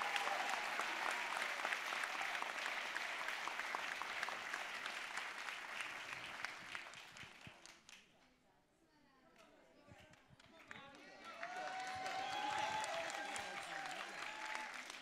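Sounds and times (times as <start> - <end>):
audience applauding: 0.0 - 8.0, 10.5 - 15.0.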